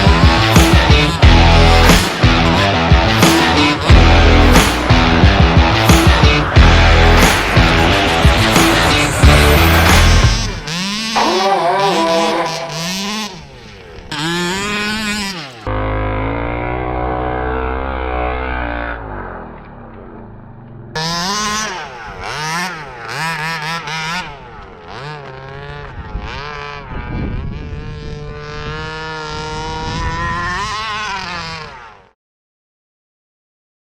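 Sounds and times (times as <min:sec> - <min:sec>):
two-stroke engine revving: 0:00.0 - 0:32.2.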